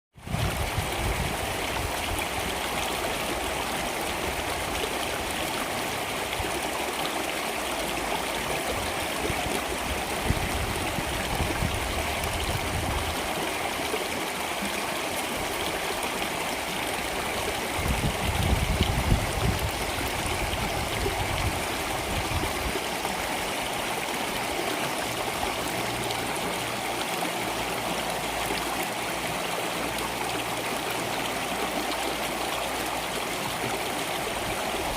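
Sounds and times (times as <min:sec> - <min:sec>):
water flowing in a stream: 0:00.2 - 0:34.9.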